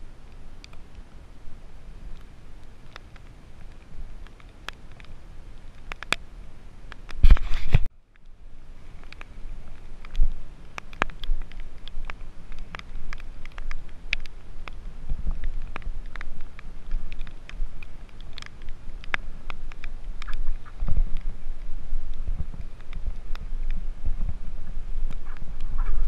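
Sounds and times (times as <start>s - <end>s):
steady low rumble: 3.4s - 26.0s.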